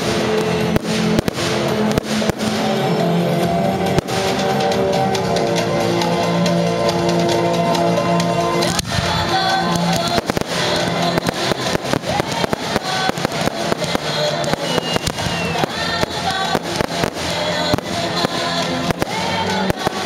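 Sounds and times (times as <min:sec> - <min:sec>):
fireworks bangs and crackles: 0:00.0 - 0:20.0
music with held notes: 0:00.0 - 0:20.0.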